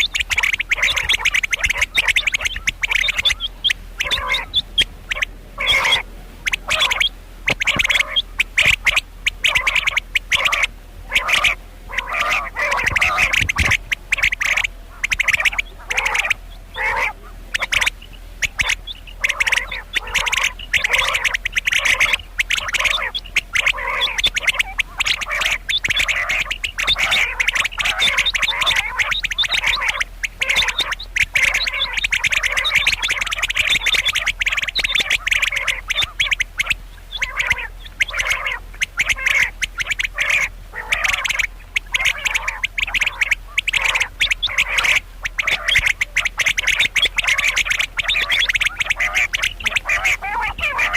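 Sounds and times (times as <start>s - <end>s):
quail rasping calls: 0.0s - 50.9s.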